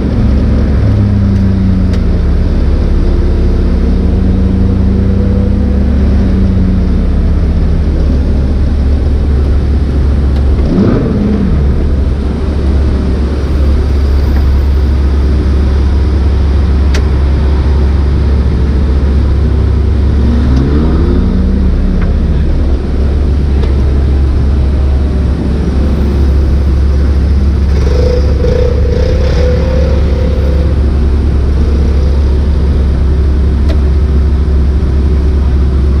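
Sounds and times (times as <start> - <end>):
car engine running at low revs: 0.0 - 36.0.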